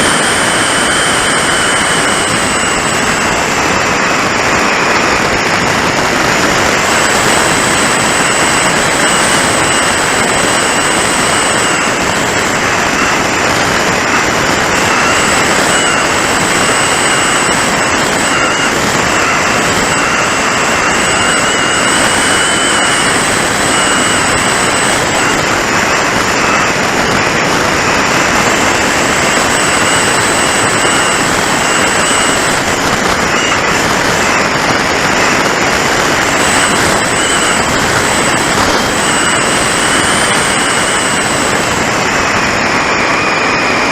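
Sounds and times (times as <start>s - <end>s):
wind rushing over camera: 0.0s - 43.9s.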